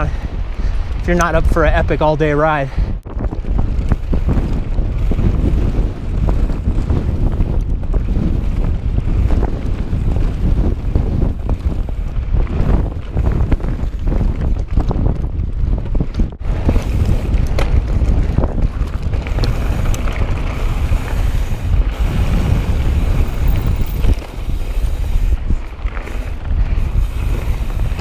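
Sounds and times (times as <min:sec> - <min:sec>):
wind buffeting microphone: 0:00.0 - 0:28.0
bike clicks and rattles: 0:03.0 - 0:28.0.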